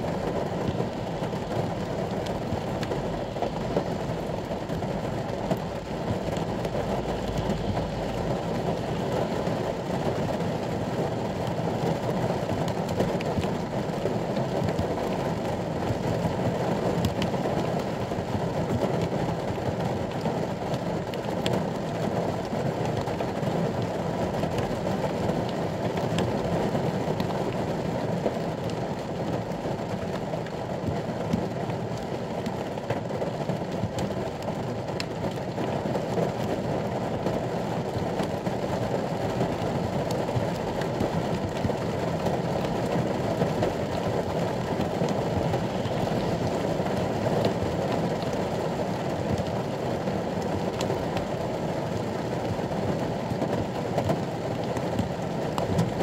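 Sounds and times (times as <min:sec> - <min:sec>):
rain on a vehicle roof: 0:00.0 - 0:56.0.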